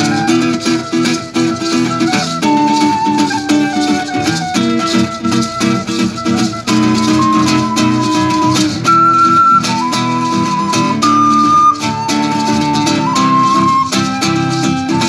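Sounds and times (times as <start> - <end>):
maracas shaking: 0.0 - 15.0
recorder melody: 0.0 - 15.0
strummed acoustic guitar: 0.0 - 15.0.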